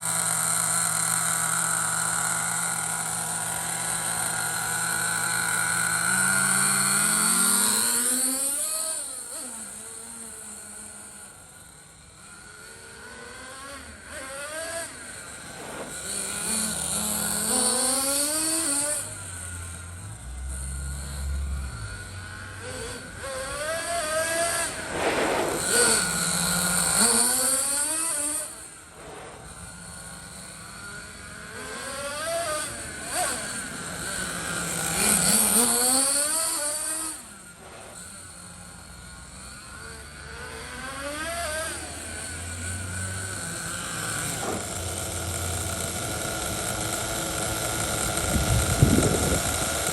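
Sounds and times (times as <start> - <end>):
toy monster truck revving: 0.0 - 49.9.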